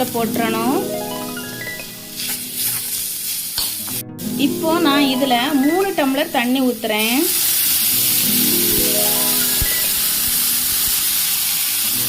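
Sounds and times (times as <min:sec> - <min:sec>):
light background music: 0:00.0 - 0:12.0
water hissing in hot pan: 0:02.0 - 0:12.0.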